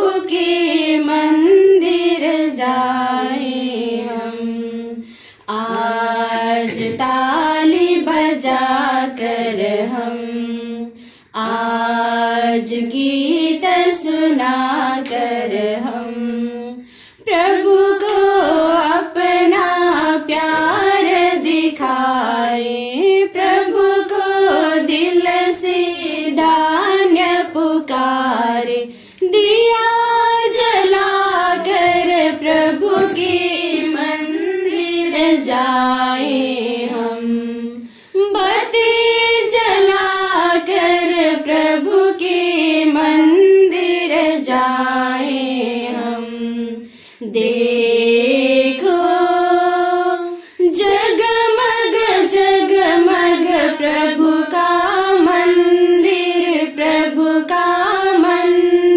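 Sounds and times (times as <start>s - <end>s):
woman singing a hymn: 0.0s - 58.9s.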